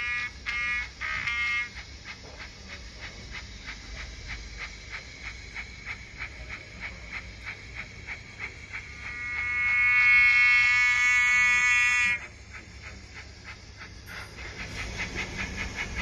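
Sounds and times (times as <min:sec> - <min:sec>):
model train steam chuffs: 0:00.0 - 0:16.0.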